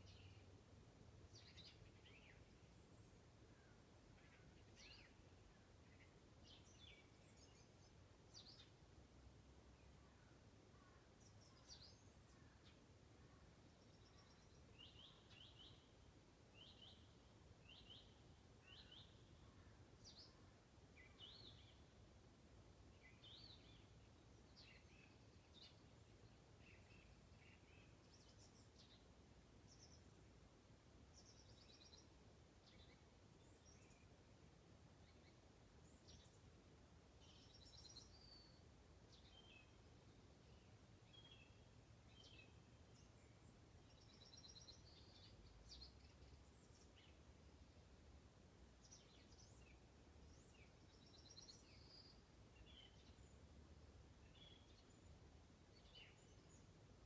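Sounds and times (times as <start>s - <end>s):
faint songbirds chirping: 0.0s - 57.0s.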